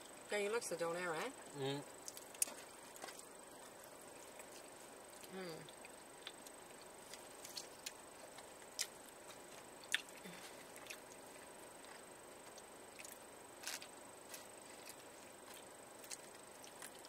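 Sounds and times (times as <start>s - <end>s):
chewing food: 2.0s - 17.0s.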